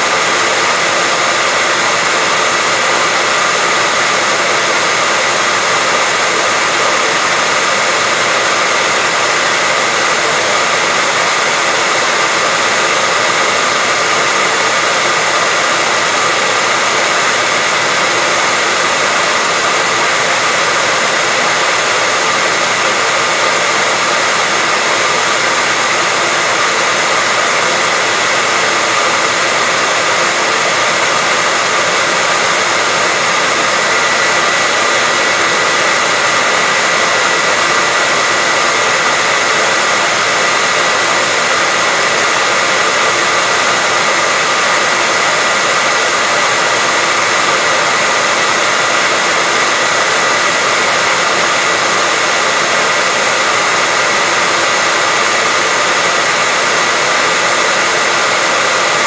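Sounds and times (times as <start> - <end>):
hair dryer blowing: 0.0 - 59.0.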